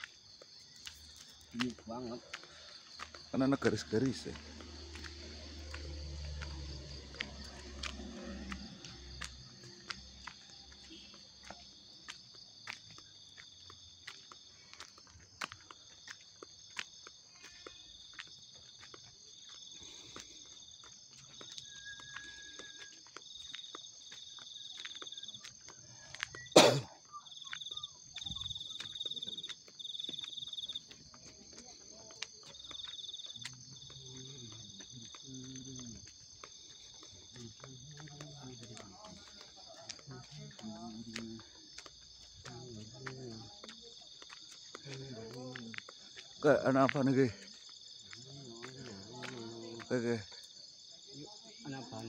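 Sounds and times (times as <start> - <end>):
clicking footsteps: 0.0 - 26.4, 27.5 - 50.6
insects chirping: 0.0 - 52.0.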